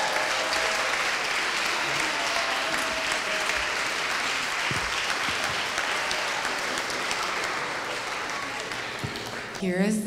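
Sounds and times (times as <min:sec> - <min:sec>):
crowd applauding: 0:00.0 - 0:09.8.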